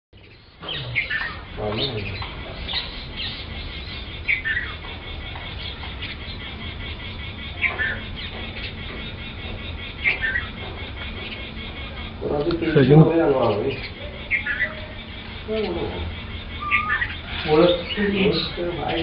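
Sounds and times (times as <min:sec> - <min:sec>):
sparrows chirping: 0:00.2 - 0:19.0.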